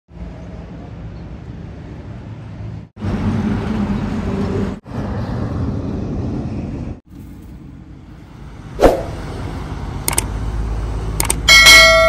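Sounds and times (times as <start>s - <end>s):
heavy road traffic rumbling: 0.1s - 12.0s
trucks passing: 0.1s - 12.0s.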